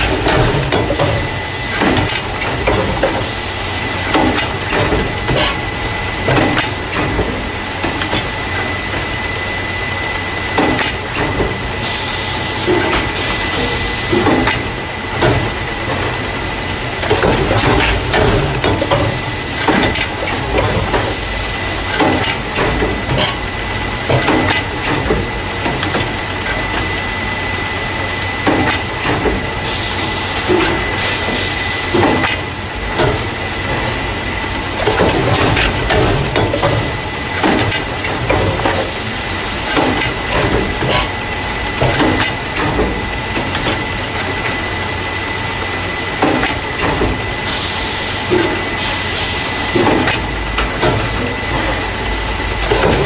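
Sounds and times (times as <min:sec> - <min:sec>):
machine clanks and knocks: 0:00.0 - 0:03.4, 0:04.0 - 0:09.1, 0:10.5 - 0:12.0, 0:12.6 - 0:27.2, 0:28.0 - 0:44.7, 0:45.6 - 0:47.6, 0:48.2 - 0:53.0
carton packing machine hum: 0:00.0 - 0:53.0.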